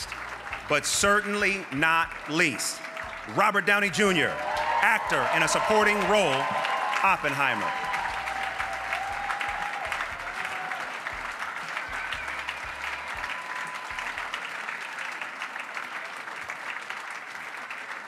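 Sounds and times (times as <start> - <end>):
large audience applauding: 0.0 - 18.0.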